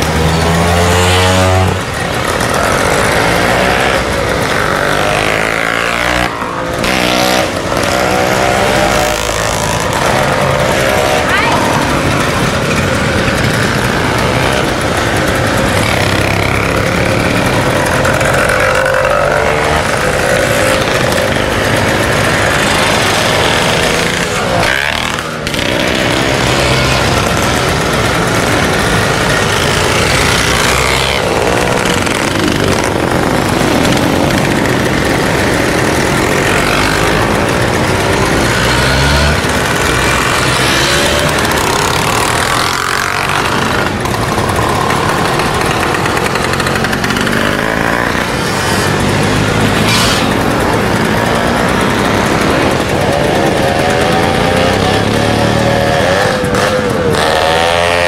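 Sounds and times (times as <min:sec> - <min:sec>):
scooter engines revving: 0:00.0 - 0:58.0.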